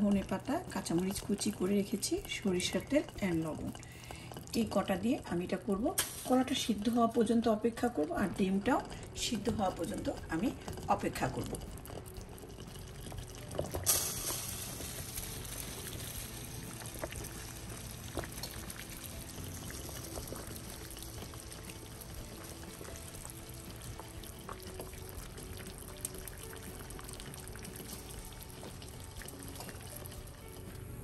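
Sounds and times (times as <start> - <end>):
water boiling and bubbling: 0.0 - 31.0.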